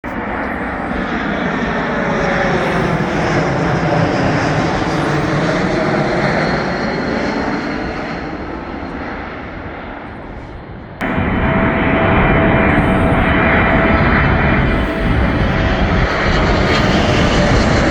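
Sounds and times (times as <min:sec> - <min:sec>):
loud steady noise with held tone: 0:00.0 - 0:10.2, 0:10.8 - 0:17.9
jet airliner passing overhead: 0:00.0 - 0:17.9.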